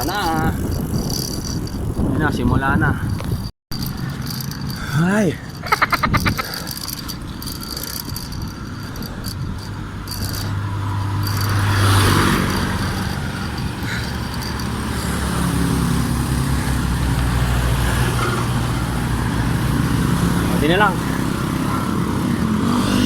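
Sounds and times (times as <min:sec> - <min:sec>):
another vehicle engine: 0:03.7 - 0:23.0
vehicle engine passing: 0:03.8 - 0:23.0.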